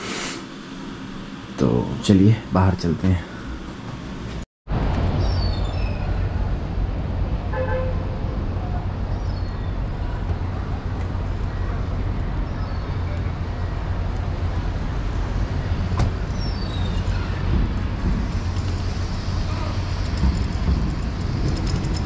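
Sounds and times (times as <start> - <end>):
road and tram traffic rumble: 0.0 - 22.0.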